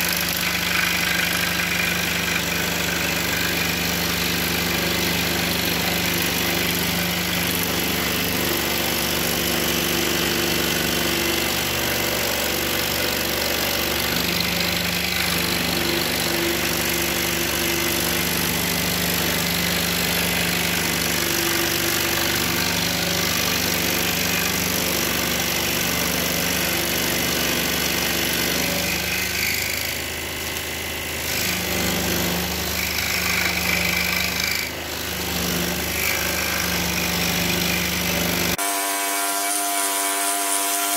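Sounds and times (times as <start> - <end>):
saw blade rasping through wood: 0.0 - 40.9.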